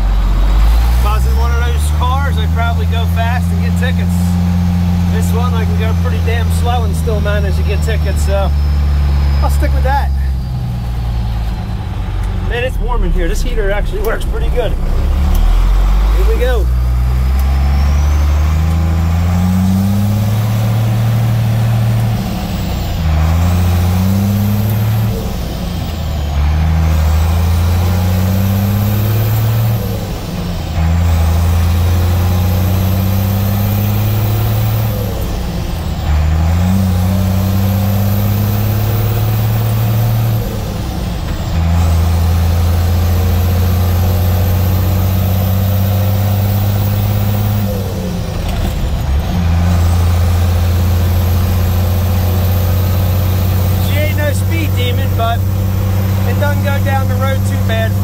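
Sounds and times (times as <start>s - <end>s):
diesel truck engine accelerating: 0.0s - 58.0s.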